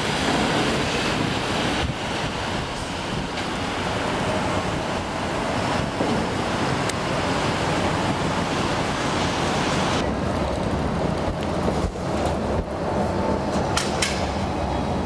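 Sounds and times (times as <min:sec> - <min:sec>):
city street traffic: 0:00.0 - 0:15.0
wind rumbling on microphone: 0:00.0 - 0:15.0.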